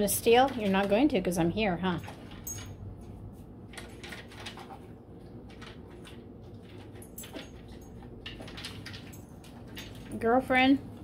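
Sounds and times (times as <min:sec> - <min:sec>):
dog eating kibble from plastic bowl: 0:00.2 - 0:02.8, 0:03.6 - 0:10.7.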